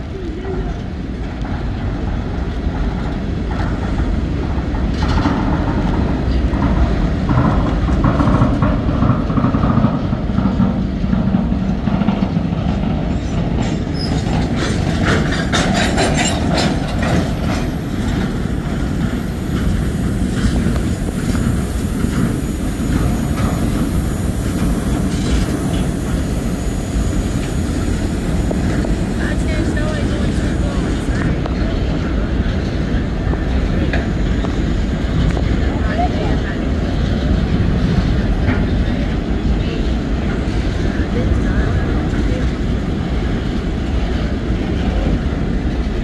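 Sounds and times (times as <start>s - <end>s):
freight train wheels rumbling: 0.0s - 46.0s
wheels clacking over rail joints: 0.0s - 46.0s.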